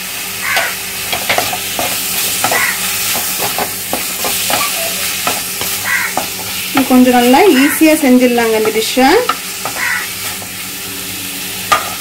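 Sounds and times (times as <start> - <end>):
mushrooms sizzling in oil: 0.0 - 12.0
spatula scraping pan: 0.5 - 10.6.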